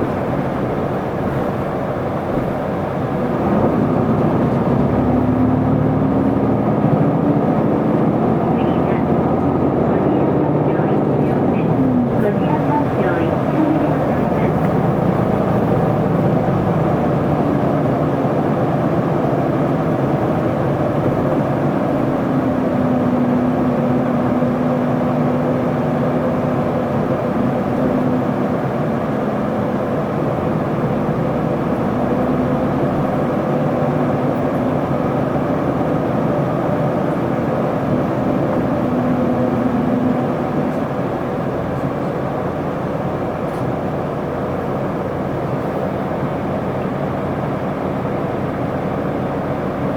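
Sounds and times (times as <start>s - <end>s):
bus diesel engine running: 0.0s - 49.9s
road noise: 0.0s - 49.9s.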